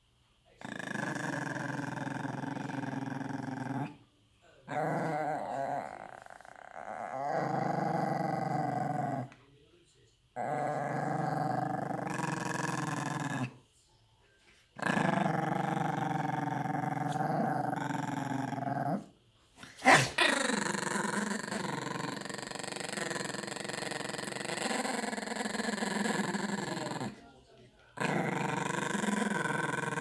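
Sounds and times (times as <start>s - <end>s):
dog growling: 0.6s - 4.0s, 4.6s - 9.4s, 10.4s - 13.6s, 14.8s - 27.2s, 28.0s - 30.0s.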